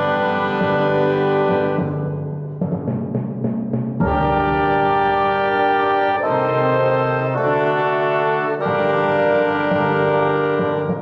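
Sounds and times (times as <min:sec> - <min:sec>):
brass section playing chords: 0:00.0 - 0:02.1, 0:04.0 - 0:11.0.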